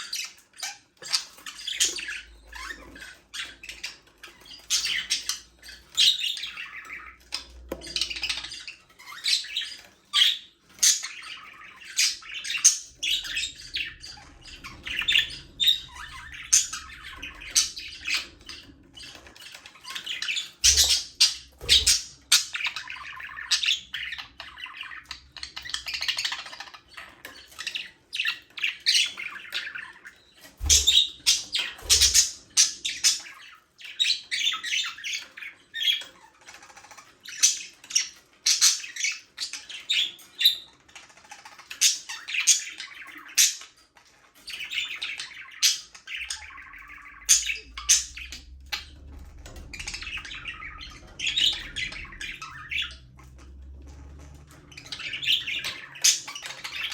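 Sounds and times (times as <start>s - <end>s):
budgerigars chirping and squawking: 0.0s - 56.9s.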